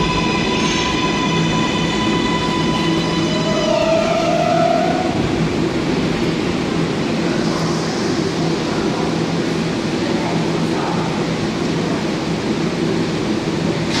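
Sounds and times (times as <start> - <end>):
low station rumble and hum: 0.0 - 14.0
subway train motor whine: 0.0 - 14.0.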